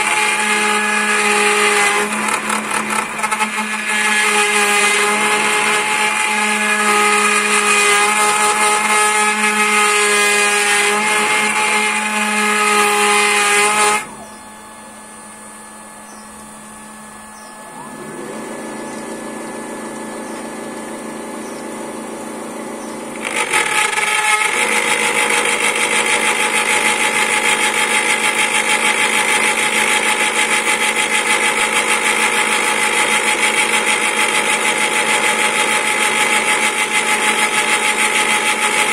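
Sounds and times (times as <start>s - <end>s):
lathe cutting wood: 0.0s - 38.9s
machine hum: 0.0s - 38.9s.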